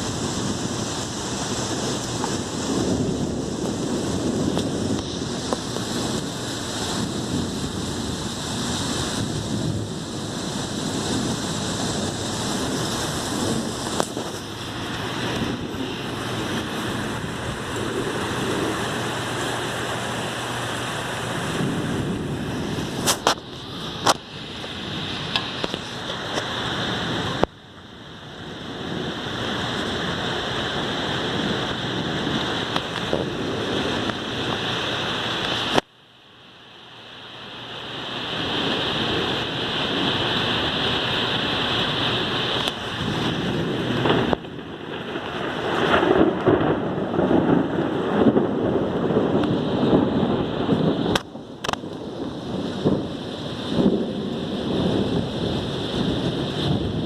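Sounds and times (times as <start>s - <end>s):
thunder rumbling: 0.0s - 35.8s, 37.8s - 57.0s
heavy rain hissing: 0.0s - 57.0s.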